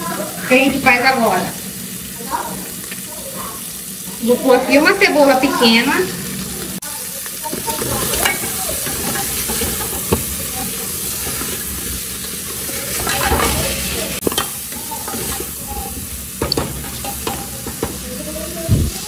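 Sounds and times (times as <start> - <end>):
meat and onions sizzling: 0.0 - 19.0.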